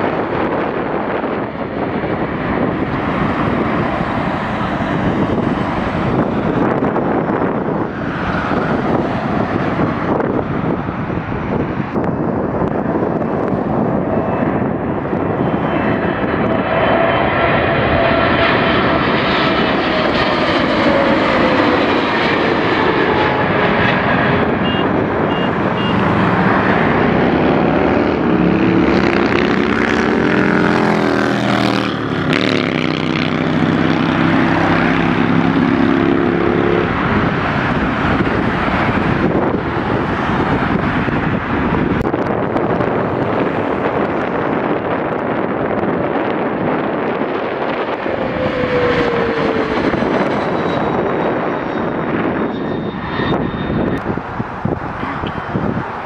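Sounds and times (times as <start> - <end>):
jet airliner engine passing: 0.0 - 56.0.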